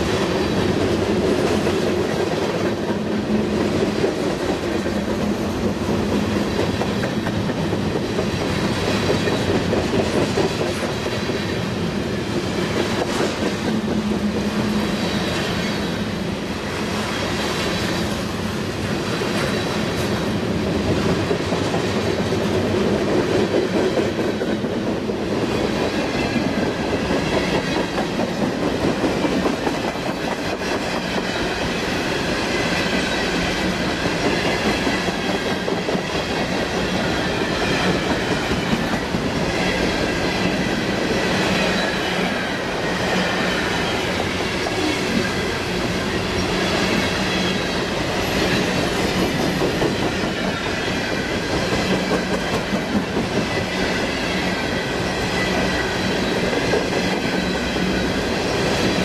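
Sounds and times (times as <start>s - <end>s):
freight train wheels clattering on rails: 0.0s - 59.0s.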